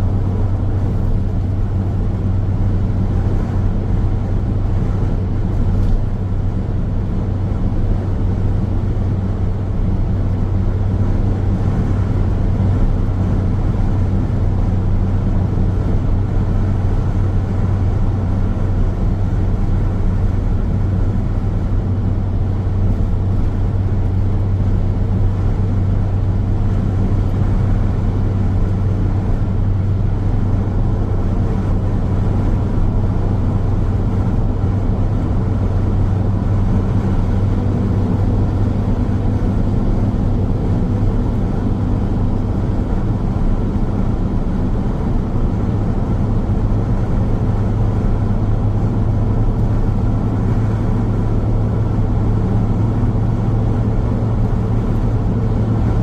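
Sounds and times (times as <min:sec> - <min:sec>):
car engine hum: 0:00.0 - 0:56.0
road and tyre noise: 0:00.0 - 0:56.0.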